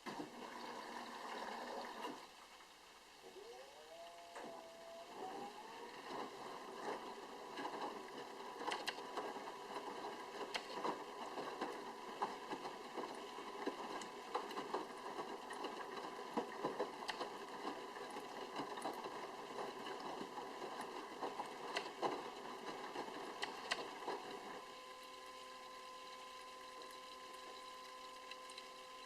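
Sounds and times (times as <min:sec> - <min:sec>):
faint hum: 0:00.0 - 0:29.0.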